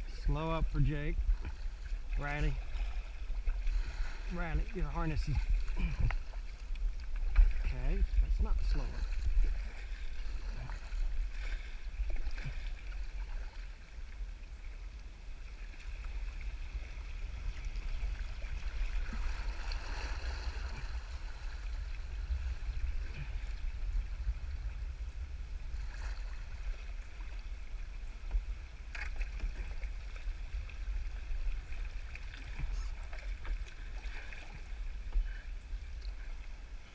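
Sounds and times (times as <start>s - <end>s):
low rumble: 0.0s - 36.9s.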